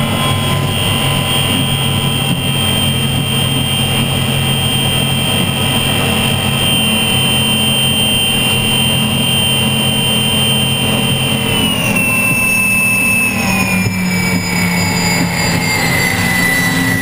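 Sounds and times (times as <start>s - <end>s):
turbine engine whine: 0.0s - 17.0s.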